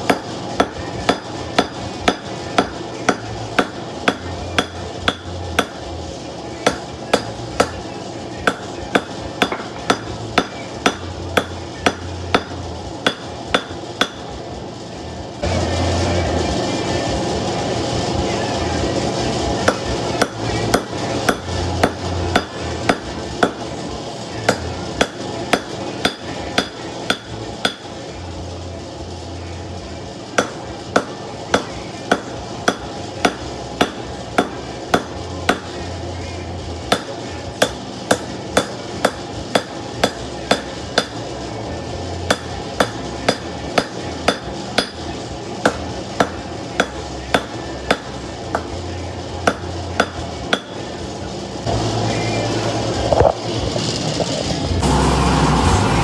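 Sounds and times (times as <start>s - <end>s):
hammer striking hot steel on anvil: 0.0s - 14.5s, 19.0s - 52.7s.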